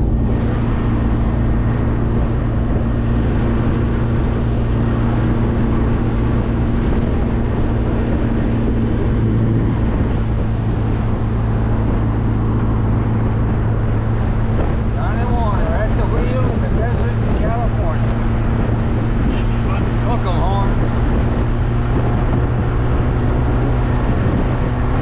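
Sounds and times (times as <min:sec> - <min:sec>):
car engine drone: 0:00.0 - 0:25.0
road and wind noise: 0:00.0 - 0:25.0.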